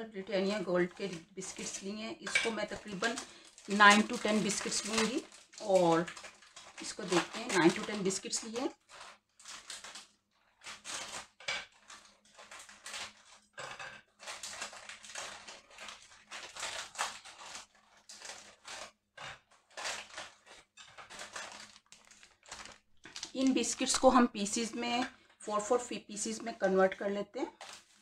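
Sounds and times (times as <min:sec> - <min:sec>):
plastic packet crinkling: 0:00.3 - 0:25.4, 0:27.4 - 0:28.0.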